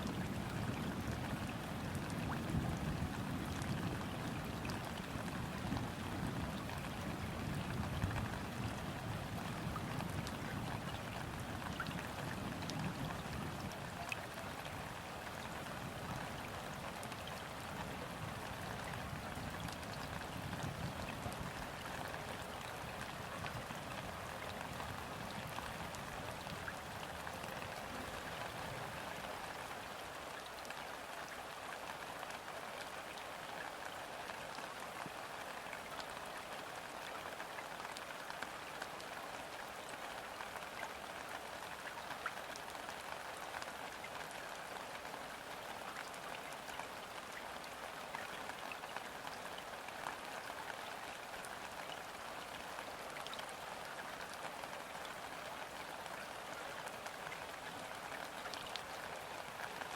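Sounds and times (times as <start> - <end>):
gentle rain on river water: 0.0 - 59.9.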